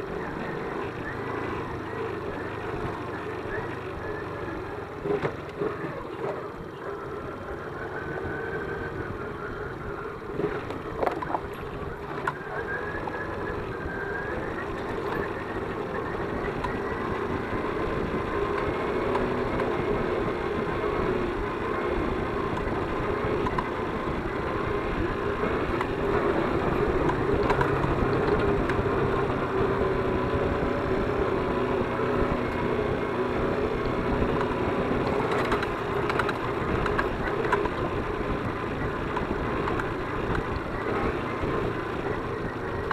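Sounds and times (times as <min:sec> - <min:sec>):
moped engine running: 0:00.0 - 0:42.9.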